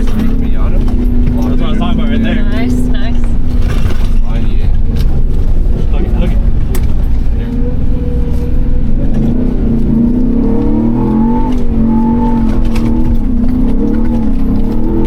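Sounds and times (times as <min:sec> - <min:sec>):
steady low rumble: 0:00.0 - 0:15.0
truck engine revving: 0:00.0 - 0:15.0.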